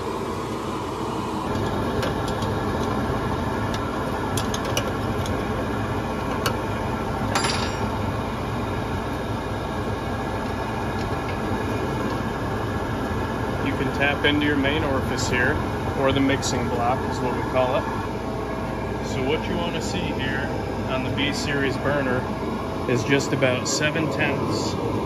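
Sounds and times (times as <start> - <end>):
heater burner rushing hum: 0.0 - 25.0.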